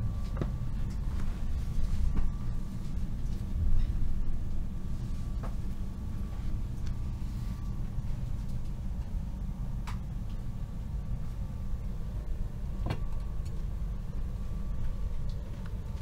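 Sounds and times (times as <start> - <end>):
faint high whine: 0.0 - 16.0
train low rumble: 0.0 - 16.0.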